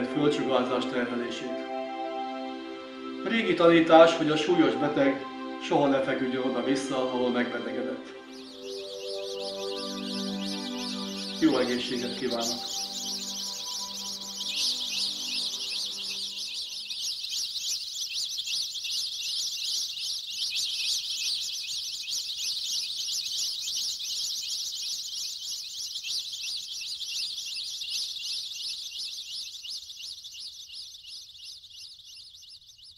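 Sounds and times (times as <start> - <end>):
high-pitched chirping chorus: 0.0 - 32.9.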